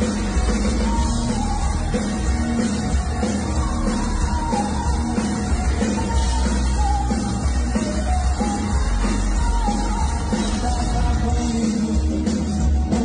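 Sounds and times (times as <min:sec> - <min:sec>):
rock song with lead vocal: 0:00.0 - 0:13.0.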